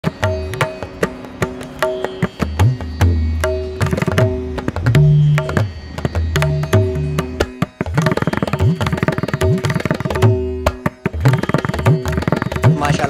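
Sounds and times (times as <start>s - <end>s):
tabla drumming: 0.0s - 13.0s.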